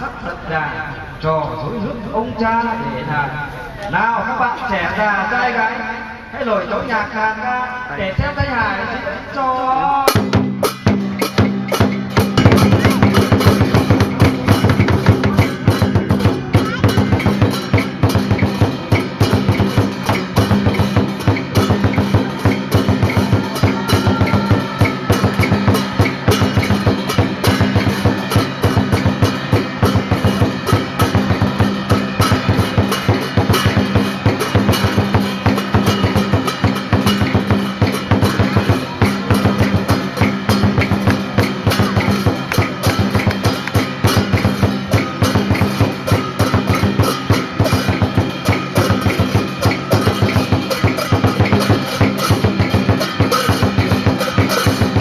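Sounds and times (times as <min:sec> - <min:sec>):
rapid dense drumming: 0:10.1 - 0:55.0.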